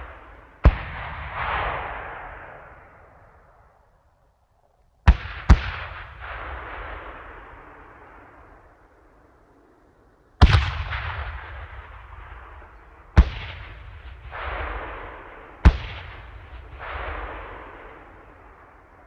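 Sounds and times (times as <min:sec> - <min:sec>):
explosions with rumbling echo: 0:00.0 - 0:03.6, 0:05.1 - 0:08.9, 0:10.4 - 0:19.0.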